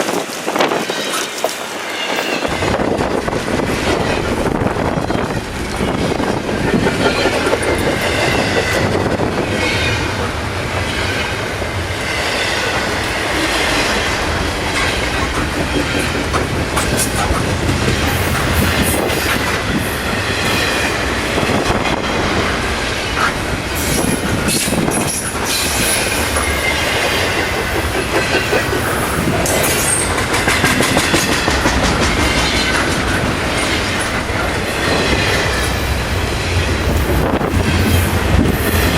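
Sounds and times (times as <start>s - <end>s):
clickety-clack over rail joints: 0.0s - 38.9s
freight train wheels rumbling: 0.0s - 38.9s.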